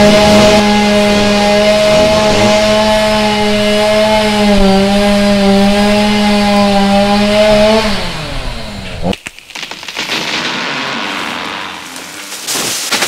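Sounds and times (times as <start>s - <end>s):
chainsaw running: 0.0s - 13.0s.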